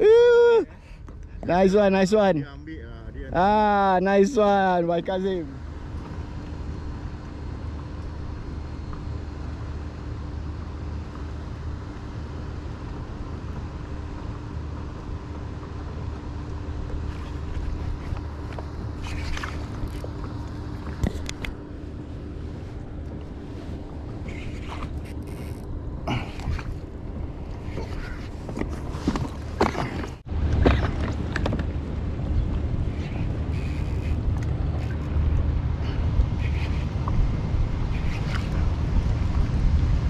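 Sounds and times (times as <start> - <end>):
faint steady hum: 0.0 - 40.0
low motor rumble: 0.0 - 40.0.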